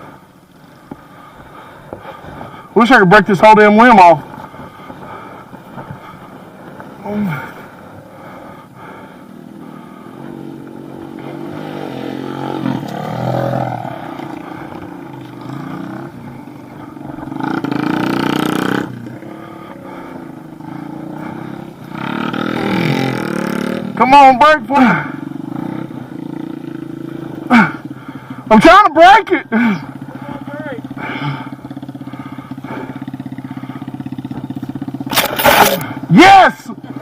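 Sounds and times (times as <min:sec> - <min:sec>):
small motorbike engine revving: 0:03.5 - 0:24.0, 0:24.8 - 0:28.3, 0:29.6 - 0:36.1.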